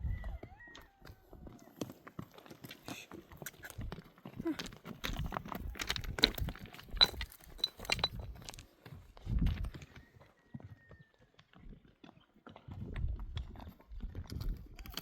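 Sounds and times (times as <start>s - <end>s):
donkey hooves on stony ground: 0.0s - 15.0s.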